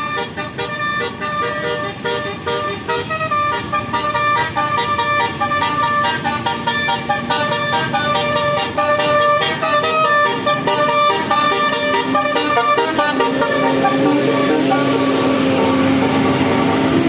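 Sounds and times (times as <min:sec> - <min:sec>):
bus horn tooting melody: 0:00.0 - 0:17.0.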